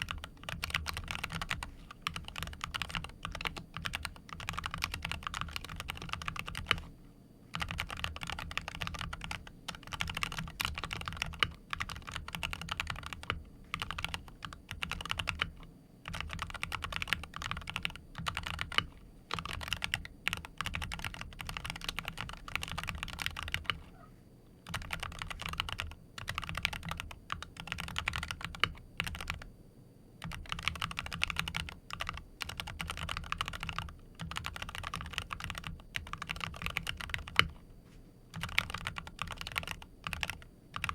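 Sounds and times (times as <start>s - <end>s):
keyboard typing: 0.0s - 6.9s, 7.5s - 23.8s, 24.6s - 29.5s, 30.2s - 37.6s, 38.3s - 40.9s.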